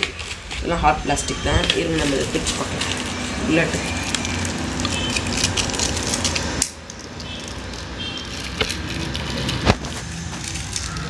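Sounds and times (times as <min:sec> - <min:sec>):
plastic packet crinkling: 0:00.0 - 0:11.0
packet being torn open: 0:01.6 - 0:11.0.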